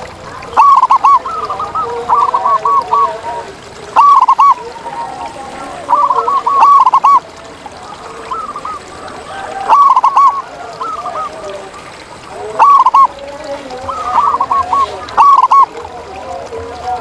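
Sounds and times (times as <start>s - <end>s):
doves cooing: 0.0s - 17.0s
faint overlapping dove coos: 0.0s - 17.0s.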